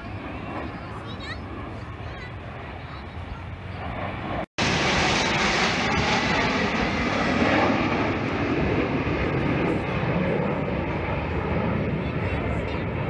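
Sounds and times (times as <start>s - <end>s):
jets flying over: 0.0s - 13.0s.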